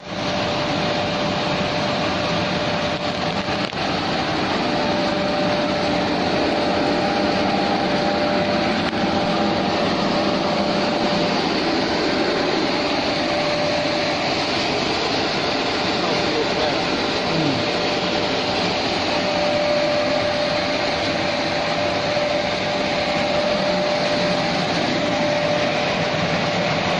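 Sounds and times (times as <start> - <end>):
washing machine running with whine: 0.0 - 26.9.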